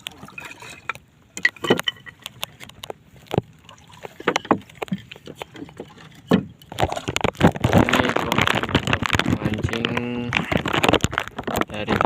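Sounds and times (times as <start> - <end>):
boat knocking and thudding: 0.0 - 12.0
water noise: 0.0 - 12.0.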